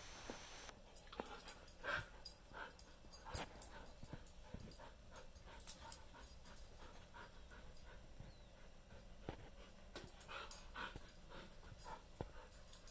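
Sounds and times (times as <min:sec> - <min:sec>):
dogs play wrestling noises: 0:01.0 - 0:12.9.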